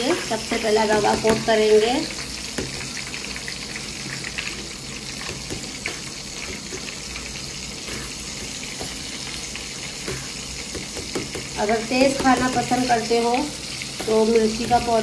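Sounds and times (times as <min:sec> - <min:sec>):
fish sizzling in frying oil: 0:00.0 - 0:15.0.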